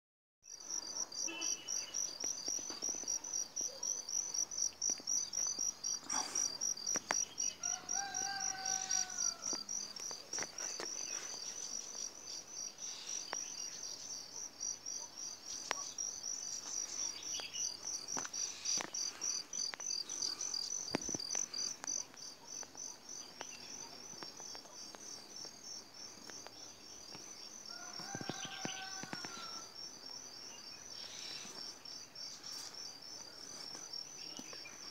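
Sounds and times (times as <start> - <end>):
insects trilling: 0.5 - 34.9.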